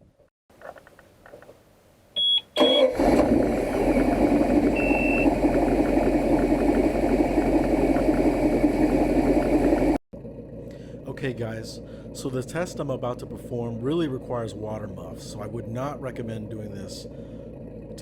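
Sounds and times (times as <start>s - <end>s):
boat engine starting and running: 2.2s - 18.0s.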